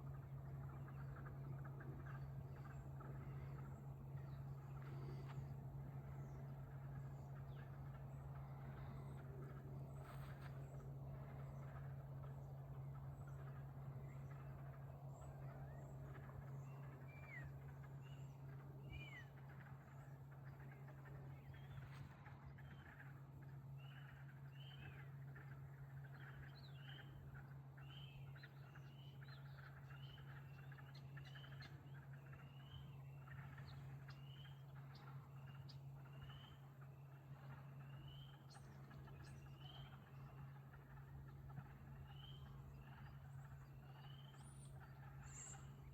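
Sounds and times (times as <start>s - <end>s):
bird chirping: 0.0s - 23.1s, 23.8s - 45.9s
steady low hum: 0.0s - 45.9s.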